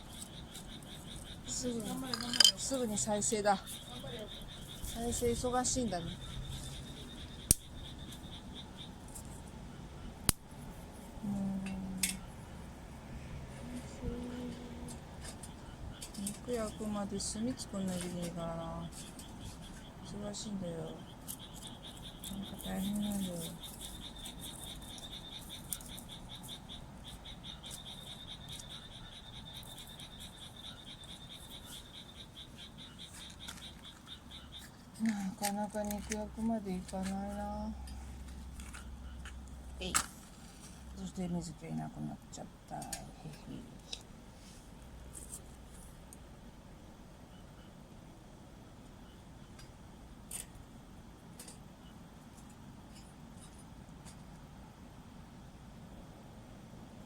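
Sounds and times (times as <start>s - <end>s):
frogs croaking: 0.0s - 45.4s, 46.0s - 50.4s
low steady hum: 0.0s - 57.0s.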